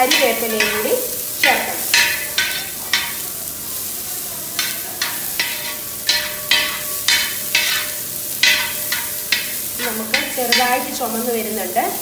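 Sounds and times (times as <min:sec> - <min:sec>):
metal spatula scraping metal pan: 0:00.0 - 0:03.3, 0:04.6 - 0:11.1
frying sizzle: 0:00.0 - 0:12.0.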